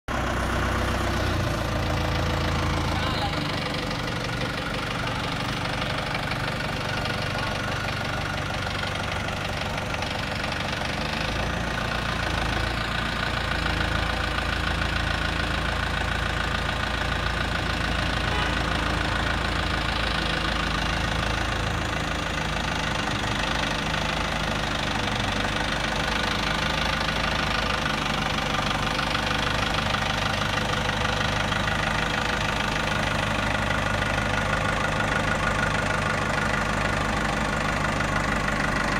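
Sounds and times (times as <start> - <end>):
forklift engine running: 0.1 - 38.9.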